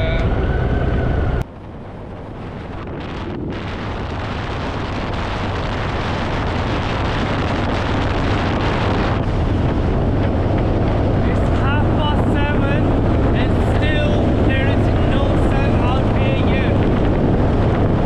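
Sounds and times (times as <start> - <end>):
motorcycle engine at speed: 0.0 - 18.0
wind rushing over microphone: 0.0 - 18.0.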